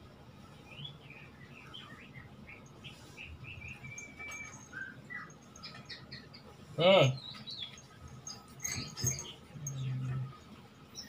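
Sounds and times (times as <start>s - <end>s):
high chirping calls: 0.7s - 10.1s.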